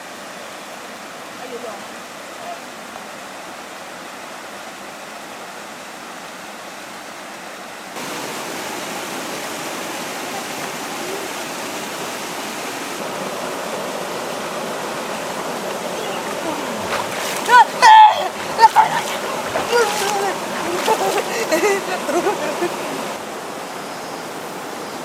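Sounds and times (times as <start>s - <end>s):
mountain stream flowing: 0.0s - 25.0s.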